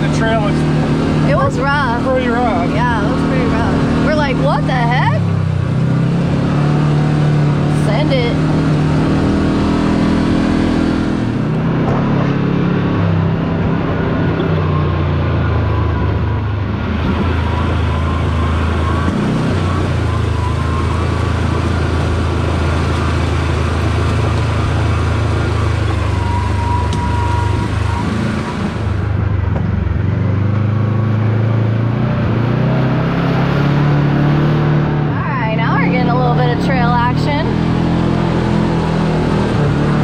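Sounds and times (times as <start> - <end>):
utility vehicle engine running: 0.0 - 40.0.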